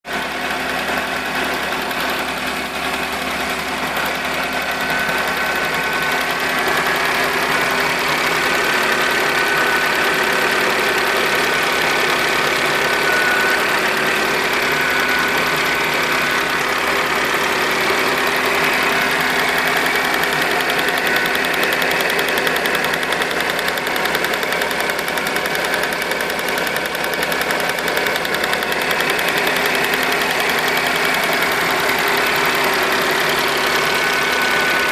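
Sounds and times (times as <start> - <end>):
car engine idling: 0.0 - 34.9
rapid ticking knock: 0.3 - 34.9.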